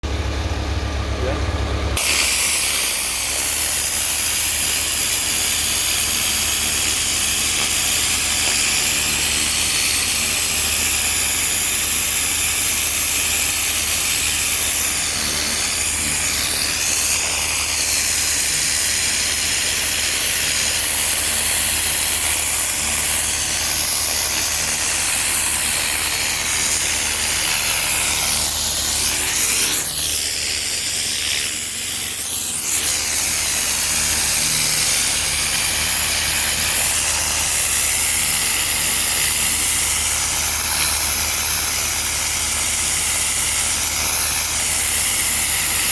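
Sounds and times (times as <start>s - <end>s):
pressure washer spraying water: 2.0s - 45.9s.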